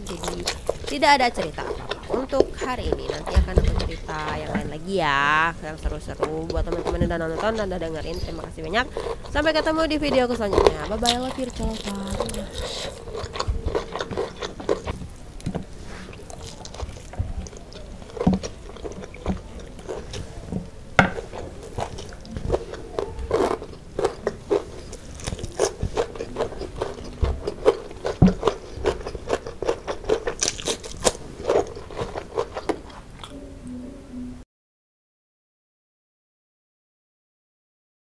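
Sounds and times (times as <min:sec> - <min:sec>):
crunching and chewing: 0:00.0 - 0:33.4.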